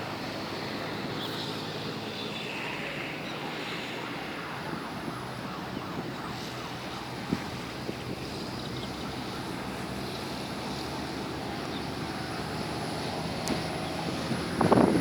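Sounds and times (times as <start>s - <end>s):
distant traffic noise: 0.0s - 15.0s
wind: 0.0s - 15.0s.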